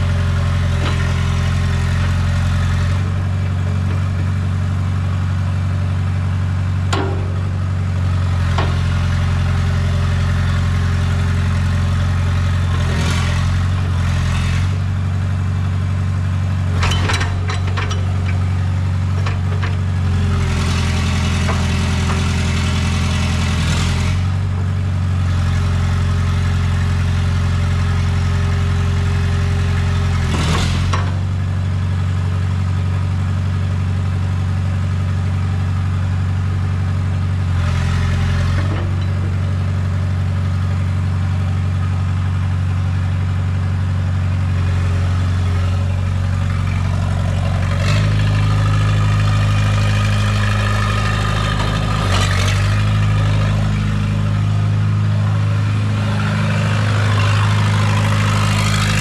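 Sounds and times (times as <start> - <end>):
excavator diesel engine idling: 0.0 - 59.0.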